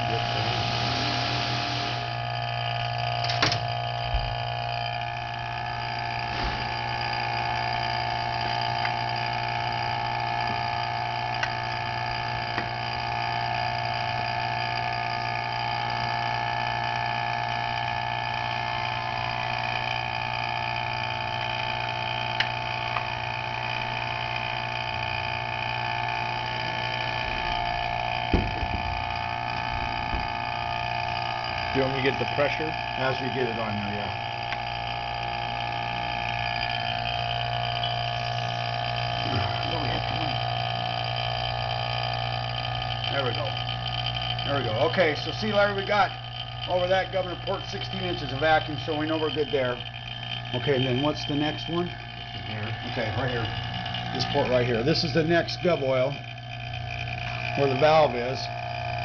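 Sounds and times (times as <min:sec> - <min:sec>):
vacuum pump humming: 0:00.0 - 0:59.0.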